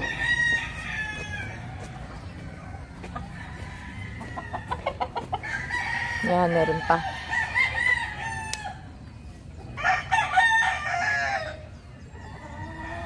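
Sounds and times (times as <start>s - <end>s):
roosters crowing: 0.0s - 13.0s.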